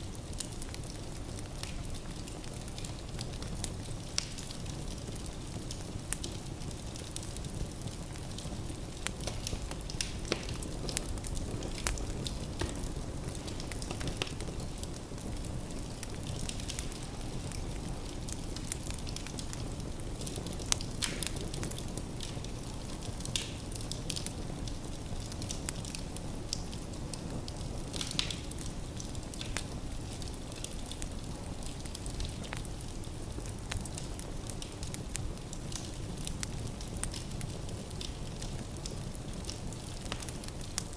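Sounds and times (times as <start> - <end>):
fire flames rumbling: 0.0 - 40.9
wood crackling and popping: 0.0 - 40.9.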